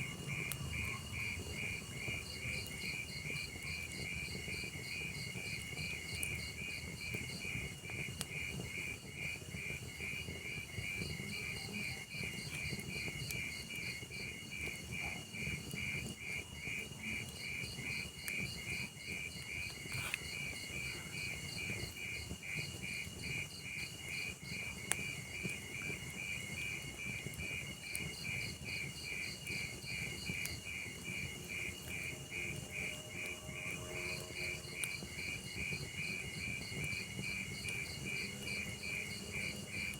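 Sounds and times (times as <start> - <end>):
fire crackling pops: 0.0 - 33.3
crickets chirping: 0.0 - 39.9
log fire hissing: 0.0 - 39.9.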